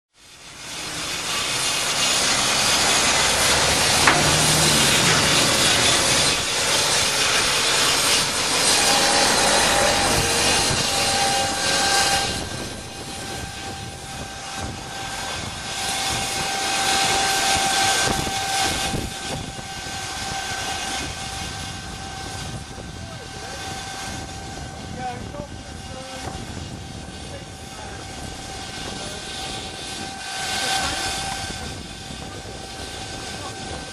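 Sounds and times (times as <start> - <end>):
high-pitched whine: 0.2 - 33.9
steam hissing from locomotive: 0.2 - 33.9.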